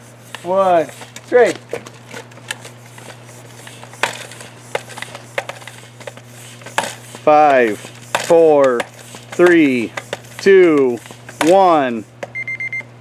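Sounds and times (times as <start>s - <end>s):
hand pump clicking: 0.3s - 12.3s.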